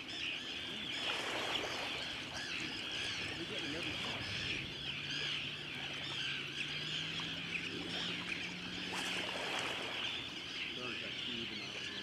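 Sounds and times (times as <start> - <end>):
seabirds chirping: 0.0 - 12.0.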